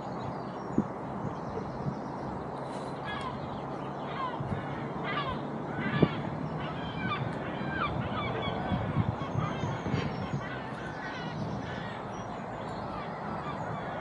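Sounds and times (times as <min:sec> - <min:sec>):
low outdoor background: 0:00.0 - 0:14.0
flock of birds calling: 0:02.6 - 0:14.0.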